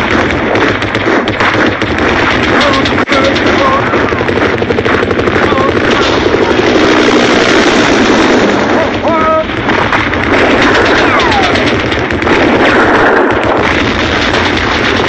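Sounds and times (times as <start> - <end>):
artillery explosions: 0.0 - 15.0
gunfire: 0.0 - 15.0.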